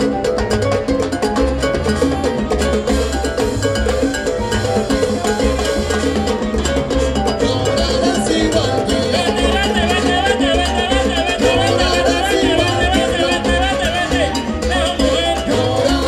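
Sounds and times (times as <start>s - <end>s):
congas: 0.0s - 16.0s
live salsa band playing: 0.0s - 16.0s
pulsing bass line: 0.0s - 16.0s.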